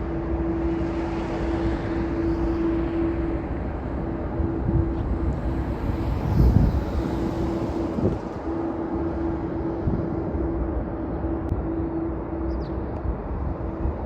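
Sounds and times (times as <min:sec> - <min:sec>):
faint hum: 0:00.0 - 0:14.0
jet engine rumble: 0:00.0 - 0:14.0.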